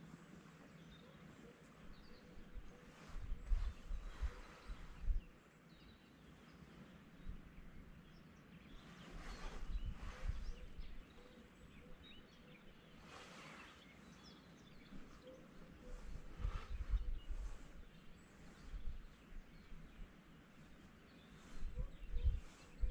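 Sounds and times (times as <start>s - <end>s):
faint bird chirps: 0.0s - 22.9s.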